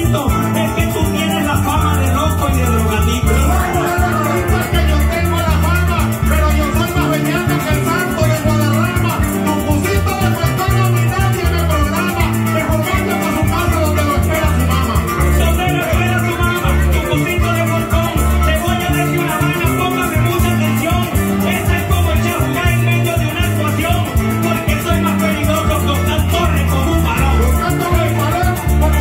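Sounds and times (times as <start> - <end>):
harp and bass folk music: 0.0 - 29.0
man singing into a microphone: 0.0 - 29.0
maracas shaking: 0.0 - 29.0.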